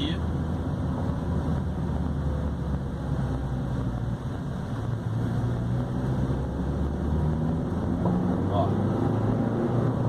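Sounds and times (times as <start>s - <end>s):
car engine droning: 0.0s - 10.0s
road noise: 0.0s - 10.0s.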